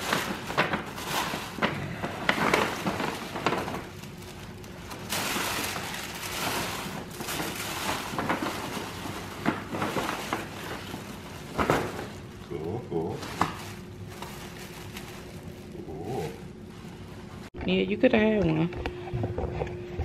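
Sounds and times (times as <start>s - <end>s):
tissue paper and gift bag rustling: 0.0s - 17.5s.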